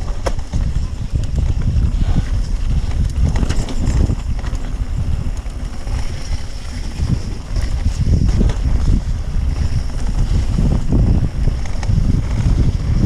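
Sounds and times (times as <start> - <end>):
bike rattling clicks: 0.0 - 13.0
tyres rumbling on trail: 0.0 - 13.0
wind buffeting microphone: 0.0 - 13.0.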